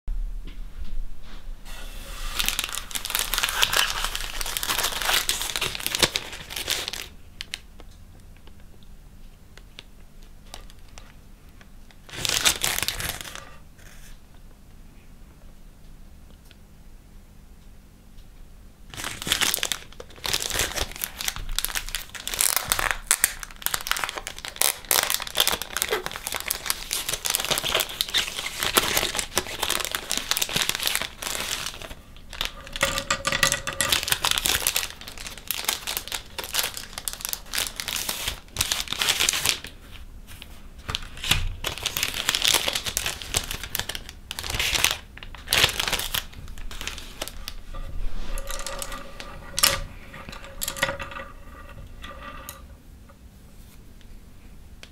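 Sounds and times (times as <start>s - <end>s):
plastic packaging crinkling: 1.7s - 7.6s, 9.6s - 14.1s, 18.9s - 52.6s.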